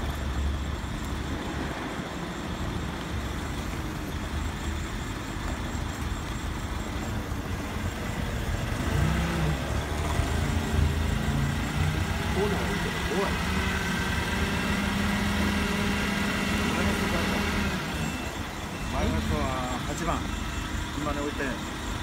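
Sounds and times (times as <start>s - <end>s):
forklift engine running: 0.0s - 22.0s.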